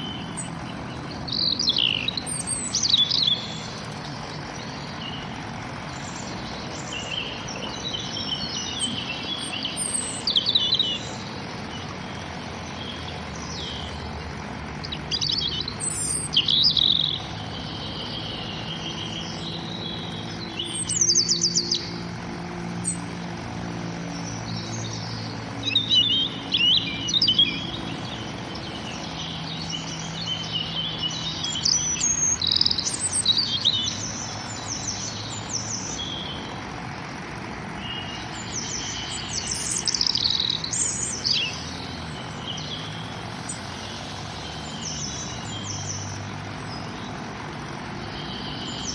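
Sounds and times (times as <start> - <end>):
small birds chirping and trilling: 0.0 - 48.9.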